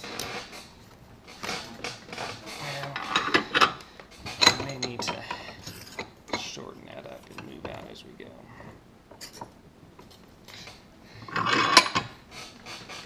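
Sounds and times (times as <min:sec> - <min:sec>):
metal clinking and clanking: 0:01.3 - 0:07.9, 0:08.6 - 0:13.0.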